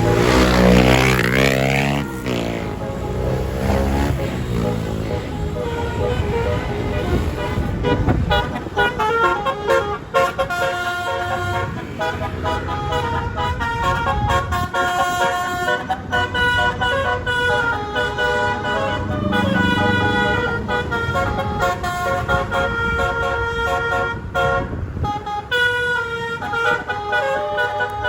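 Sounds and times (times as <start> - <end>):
bus engine rumble: 0.0 - 28.0
musical bus horn tune: 0.0 - 28.0.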